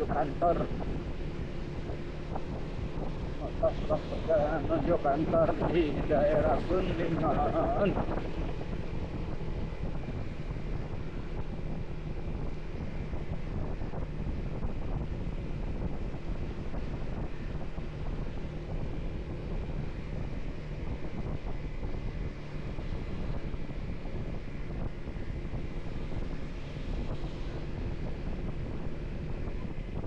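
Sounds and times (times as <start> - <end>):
motorcycle engine: 0.0 - 30.0
road noise: 0.0 - 30.0
wind rushing over microphone: 0.0 - 30.0.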